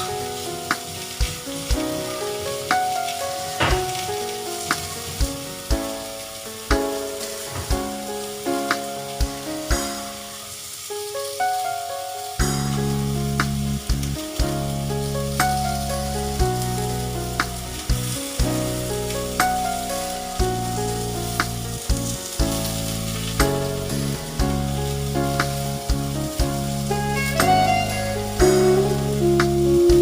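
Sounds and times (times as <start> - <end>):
background music with beat: 0.0 - 10.3, 12.4 - 30.0
food sizzling in a pot: 0.0 - 30.0.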